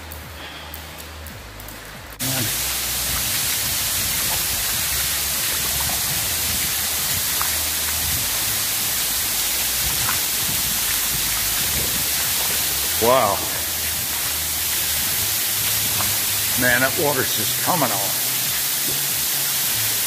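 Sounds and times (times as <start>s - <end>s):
water pouring and splashing: 0.0s - 20.0s.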